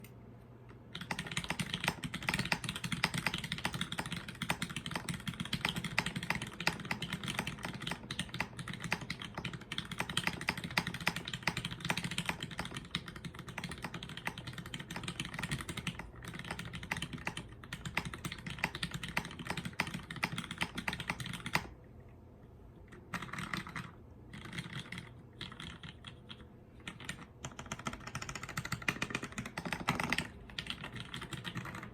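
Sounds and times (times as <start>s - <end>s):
mechanical keyboard typing: 0.9s - 21.7s, 22.9s - 31.9s.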